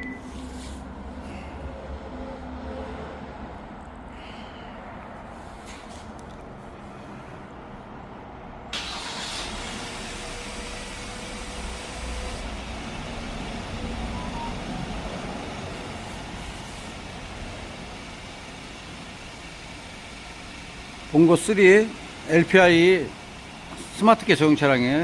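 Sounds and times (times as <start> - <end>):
truck engine idling: 3.8 - 25.0.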